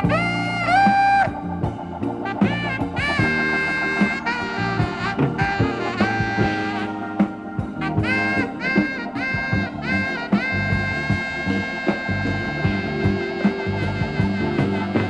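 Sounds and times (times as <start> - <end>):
live band with bass and drums: 0.0 - 15.0
tenor saxophone melody: 0.0 - 15.0.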